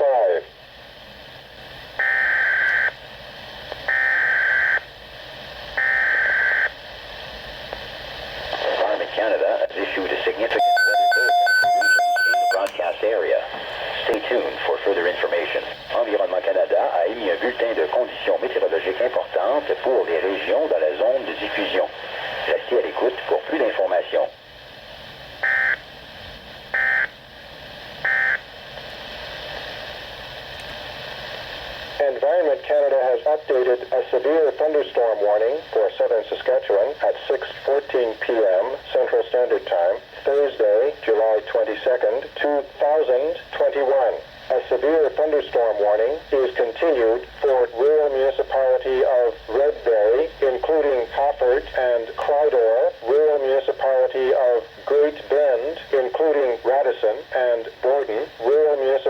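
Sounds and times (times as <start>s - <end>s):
radio static hiss: 0.0s - 59.0s.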